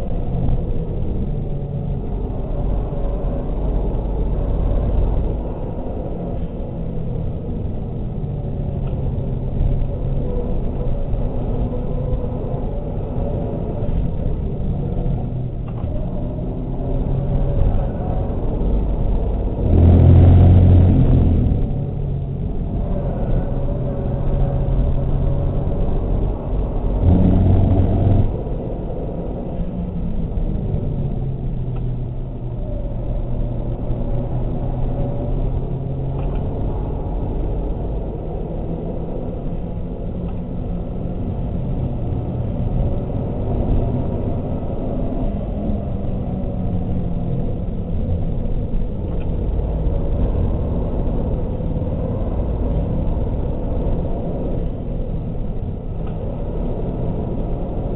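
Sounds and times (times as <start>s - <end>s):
car engine accelerating: 0.0s - 57.9s
road and tyre rumble: 0.0s - 57.9s.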